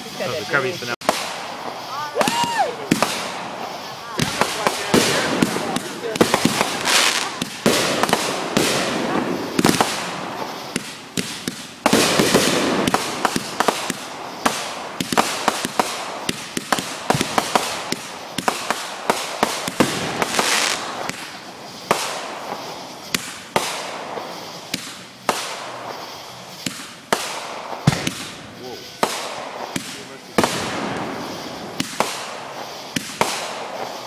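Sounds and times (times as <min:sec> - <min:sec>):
continuous fireworks hiss: 0:00.0 - 0:34.0
fireworks bangs and pops: 0:00.0 - 0:34.0.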